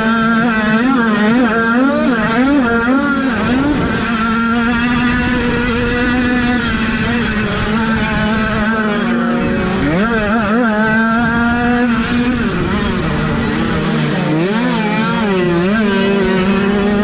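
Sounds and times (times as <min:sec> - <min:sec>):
small motorcycle engines revving: 0:00.0 - 0:17.0.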